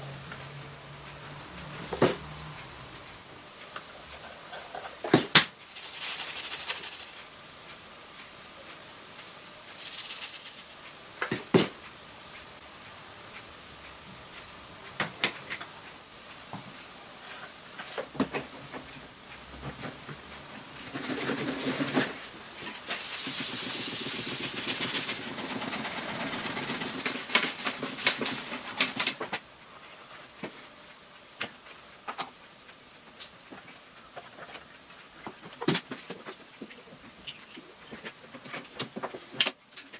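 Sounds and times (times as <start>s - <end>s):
rushing hiss and rattling: 0.0s - 39.8s.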